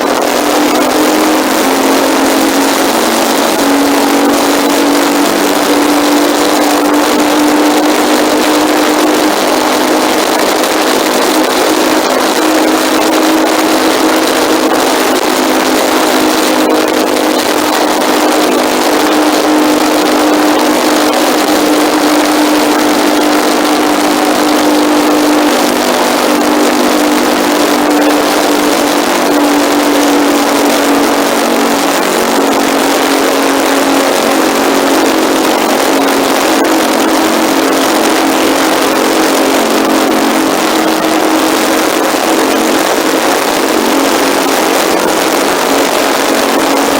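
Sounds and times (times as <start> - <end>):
motorcycle engine cruising: 0.0 - 46.9
wind rush on microphone: 0.0 - 46.9.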